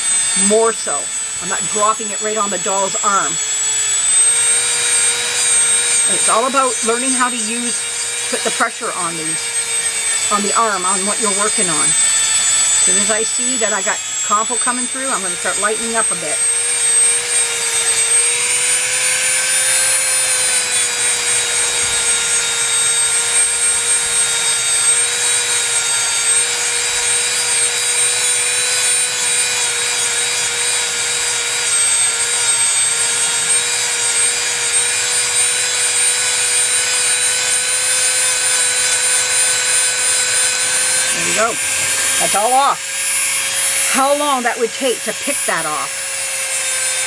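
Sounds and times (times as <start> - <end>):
rotary tool grinding paint: 0.0 - 47.0.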